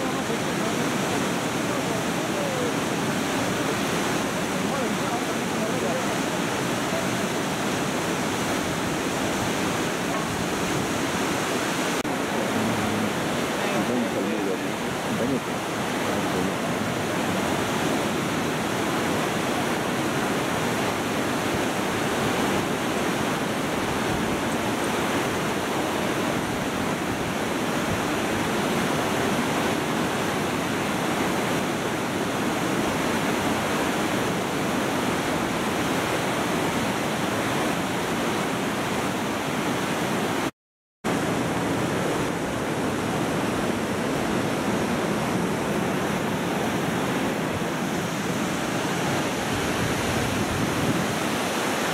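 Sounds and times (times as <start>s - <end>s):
whitewater river rushing: 0.0s - 40.5s, 41.1s - 51.9s.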